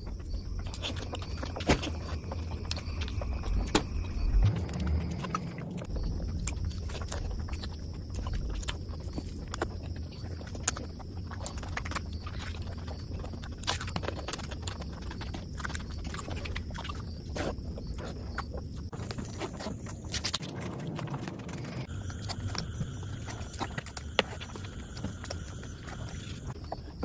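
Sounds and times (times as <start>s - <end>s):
person chewing with lip smacks: 0.0s - 27.0s.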